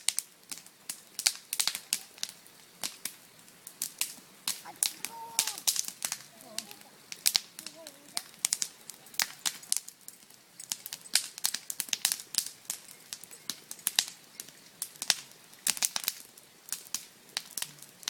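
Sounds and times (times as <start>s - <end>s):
wood bonfire crackling: 0.0s - 18.0s.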